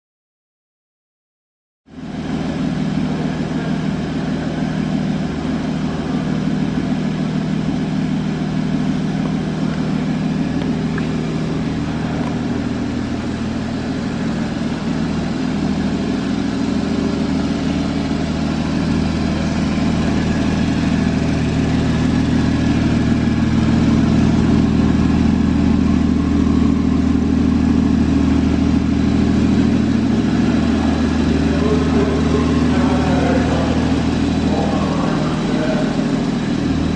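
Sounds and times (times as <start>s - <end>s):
car engine idling: 1.9s - 36.9s.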